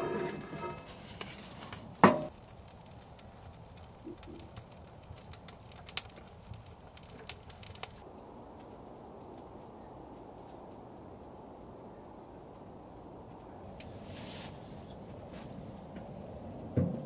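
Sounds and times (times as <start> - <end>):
wood fire crackling in stove: 0.0 - 16.8.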